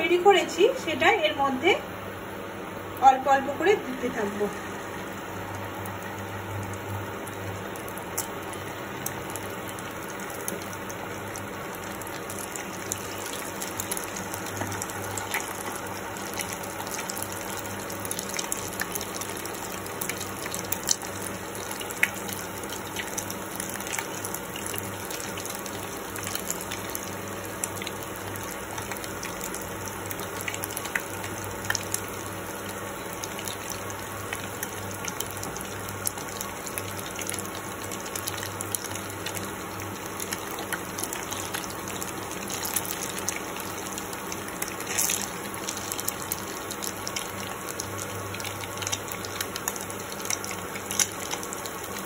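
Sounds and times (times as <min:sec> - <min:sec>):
batter deep-frying in oil: 0:00.0 - 0:52.0.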